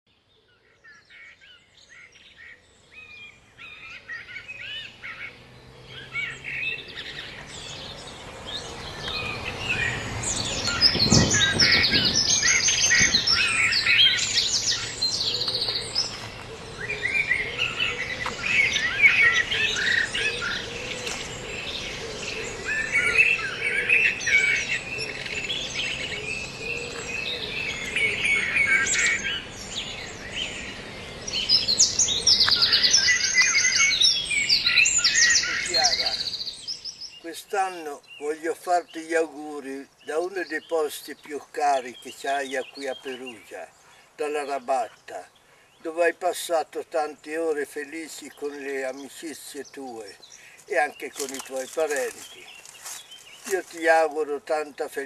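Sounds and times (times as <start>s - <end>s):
songbirds chirping and singing: 0.1s - 55.0s.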